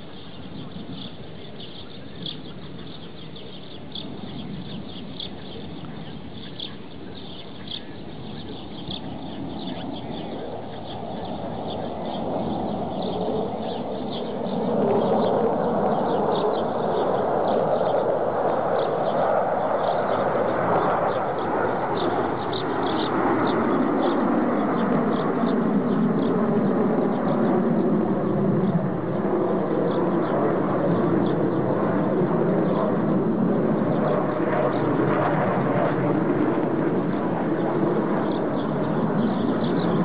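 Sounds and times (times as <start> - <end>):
fighter jets flying overhead: 0.0 - 40.0.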